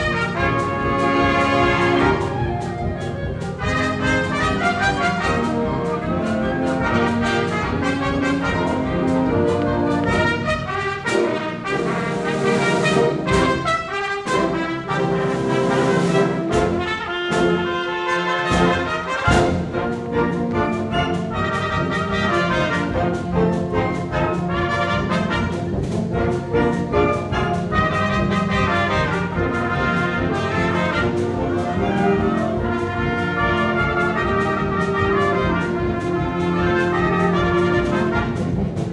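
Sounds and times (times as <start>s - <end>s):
trumpets playing: 0.0s - 38.9s.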